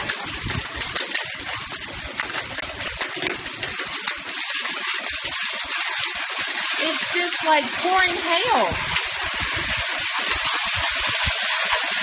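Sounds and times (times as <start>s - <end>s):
hail clattering on stone: 0.0s - 12.0s.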